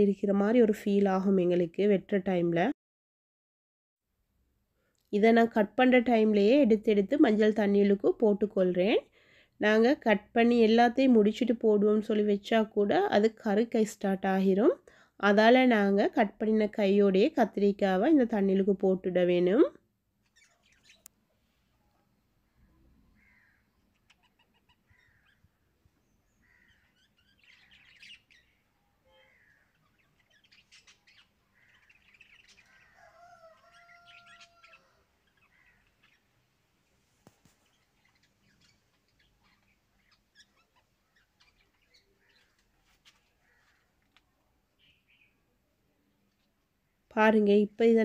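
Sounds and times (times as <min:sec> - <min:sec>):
faint birds chirping: 0:04.7 - 0:48.0.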